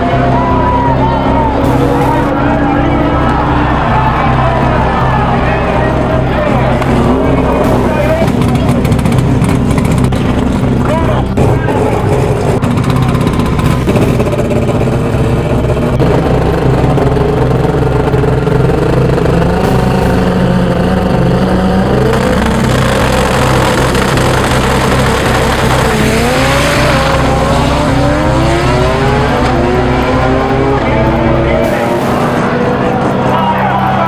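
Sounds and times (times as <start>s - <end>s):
drag race car engines accelerating: 0.0s - 34.0s.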